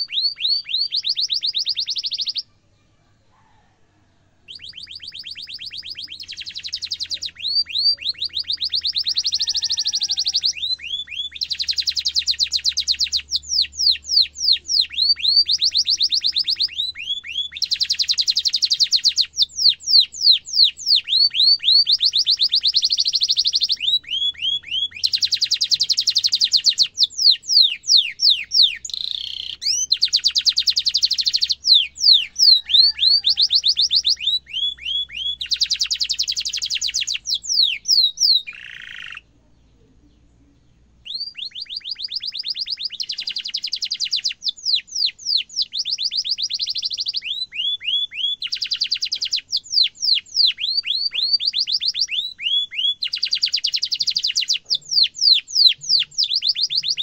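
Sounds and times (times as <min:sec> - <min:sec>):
canary singing: 0:00.0 - 0:02.6, 0:04.3 - 0:57.0.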